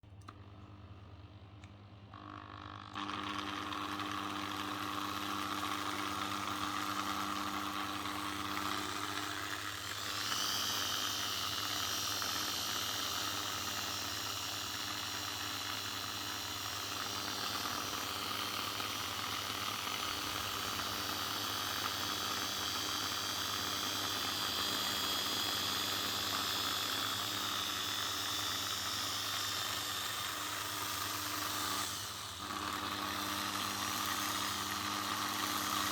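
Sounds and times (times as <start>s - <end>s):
electric drill motor hum: 2.1s - 35.9s.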